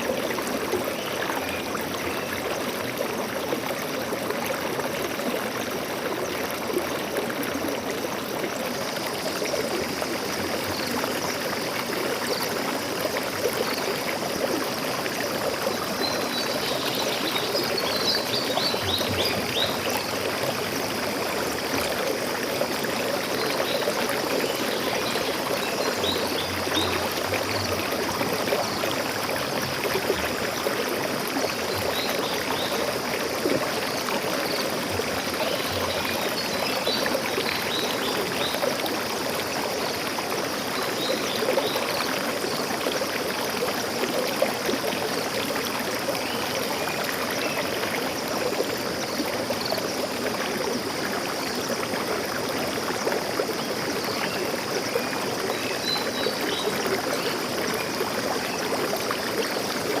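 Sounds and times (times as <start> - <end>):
stream flowing over rocks: 0.0 - 60.0.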